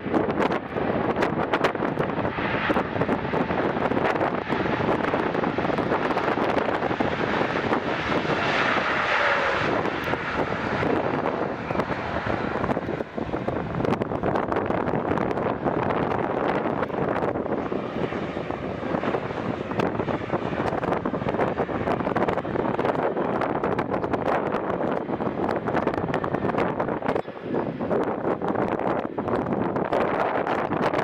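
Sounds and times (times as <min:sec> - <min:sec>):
airplane engines passing by: 0:00.0 - 0:31.0
wind buffeting microphone: 0:00.0 - 0:31.0.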